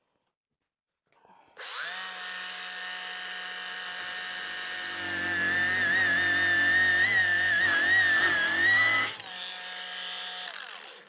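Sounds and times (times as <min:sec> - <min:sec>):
angle grinder whine: 0:01.6 - 0:11.0.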